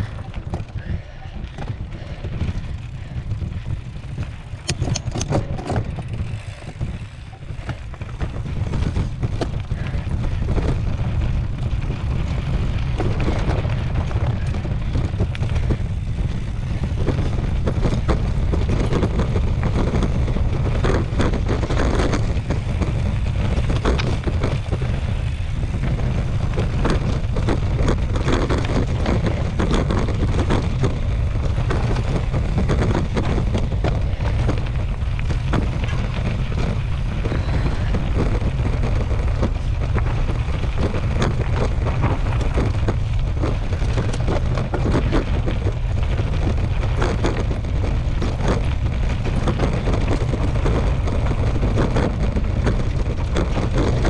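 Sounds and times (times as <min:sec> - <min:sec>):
bike rattling over bumps: 0:00.0 - 0:54.0
wind rumble on microphone: 0:00.0 - 0:54.0.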